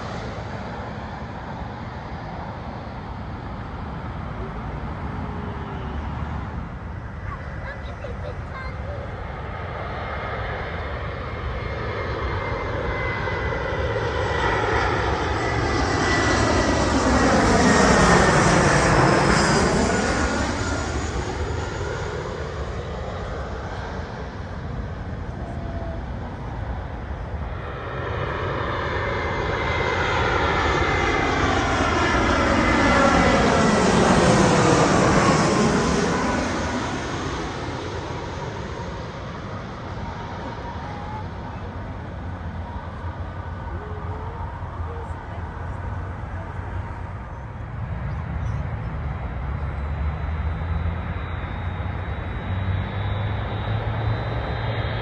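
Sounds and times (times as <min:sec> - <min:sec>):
jet airliners passing overhead: 0:00.0 - 0:55.0.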